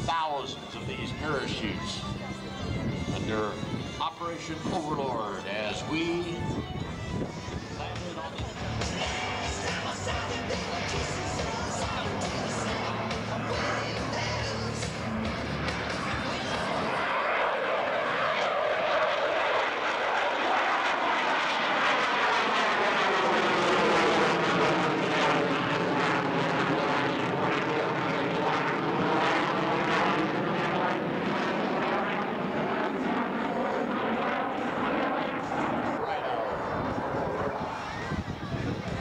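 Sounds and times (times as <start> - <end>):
jet engines roaring overhead: 0.0 - 39.0.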